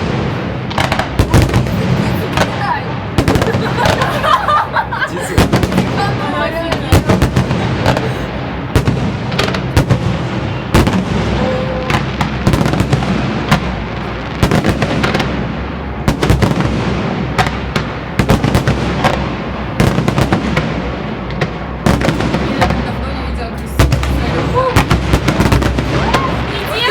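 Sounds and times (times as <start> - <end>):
firework bursts and bangs: 0.0 - 26.9
rumble of explosions: 0.0 - 26.9.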